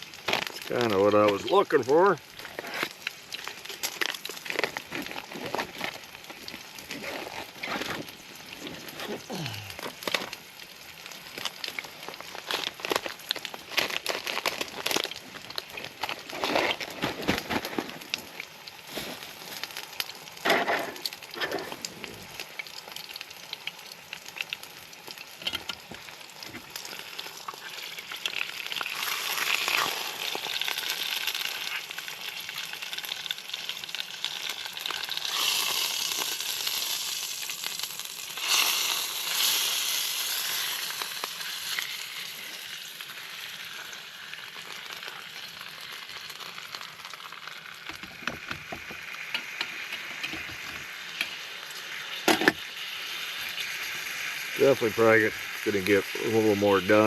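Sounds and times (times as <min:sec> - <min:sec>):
steak sizzling in a pan: 0:00.0 - 0:17.0, 0:17.9 - 0:57.0.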